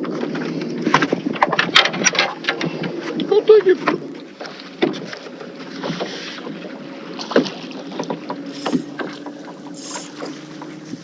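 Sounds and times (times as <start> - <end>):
tackle knocking in a boat: 0.0 - 11.0.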